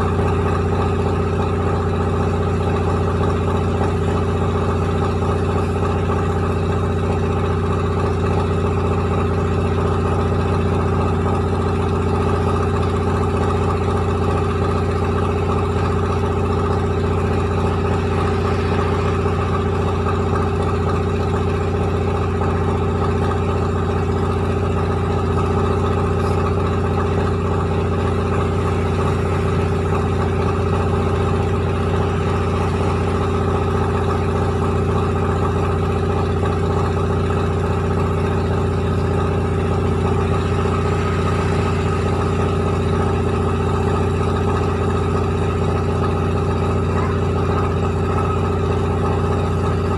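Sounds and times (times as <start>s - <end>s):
rice milling machine droning: 0.0s - 49.9s.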